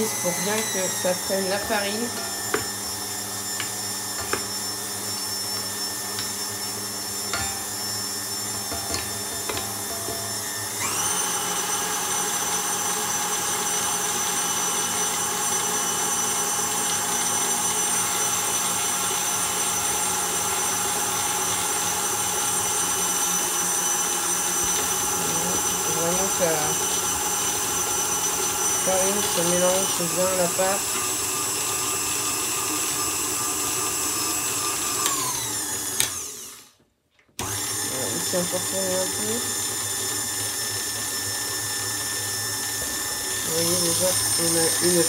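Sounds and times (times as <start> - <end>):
stand mixer kneading dough: 0.0 - 36.7, 37.4 - 45.0.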